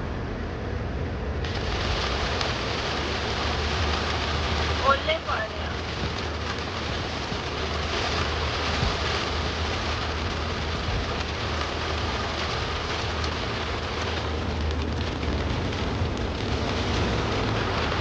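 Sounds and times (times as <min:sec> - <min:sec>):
road and engine noise: 0:00.0 - 0:18.0
rain on a car: 0:00.2 - 0:18.0.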